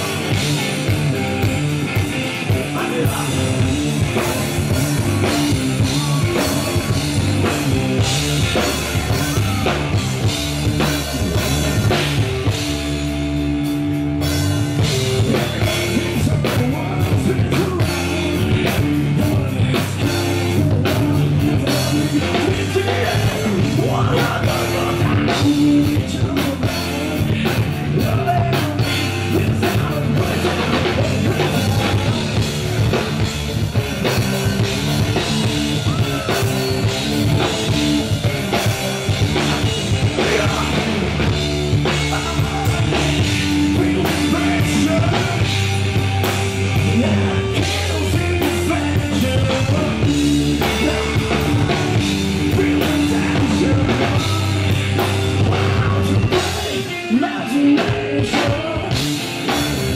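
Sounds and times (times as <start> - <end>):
man singing: 0.0 - 12.4, 14.8 - 59.9
bass guitar: 0.0 - 59.9
drum kit: 0.0 - 59.9
electric guitar: 0.0 - 59.9.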